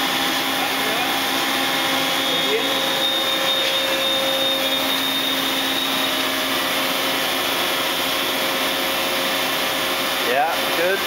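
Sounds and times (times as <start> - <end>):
boring mill whirring: 0.0 - 11.0.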